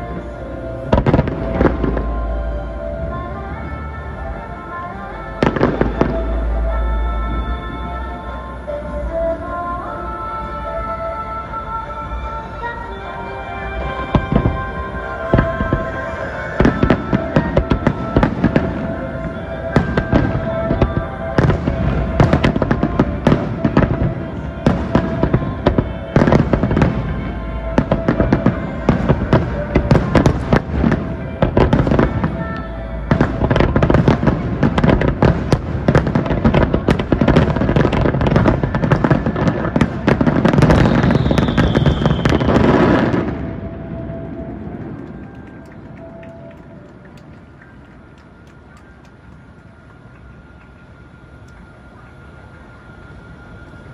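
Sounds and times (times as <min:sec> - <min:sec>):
high firework whistling: 0:00.0 - 0:47.8.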